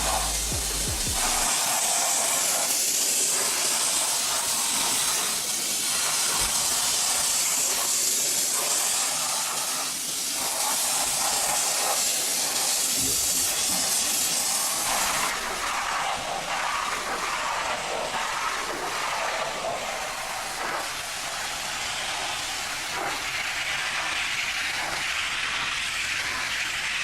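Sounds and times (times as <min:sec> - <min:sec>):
pressure washer spray hissing: 0:00.0 - 0:27.0.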